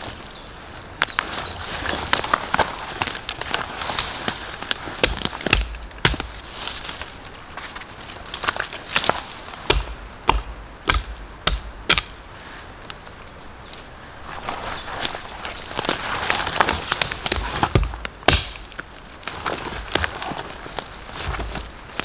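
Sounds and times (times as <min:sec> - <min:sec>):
footsteps on forest floor: 0:00.0 - 0:22.0
twigs and leaves crackling: 0:00.0 - 0:22.0.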